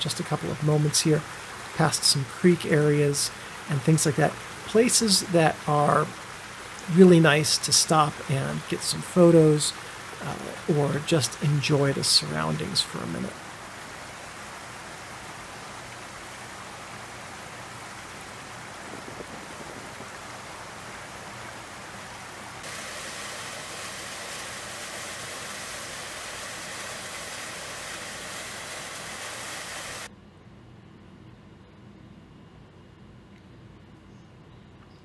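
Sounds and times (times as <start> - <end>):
creek water rushing: 0.0 - 30.1
waterfall pouring into pool: 0.0 - 30.1.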